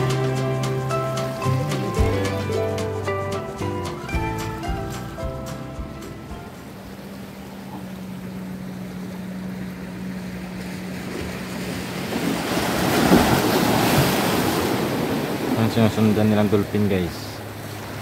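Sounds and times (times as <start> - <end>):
boat engine humming: 0.0 - 18.0
wind and water rushing: 0.0 - 18.0.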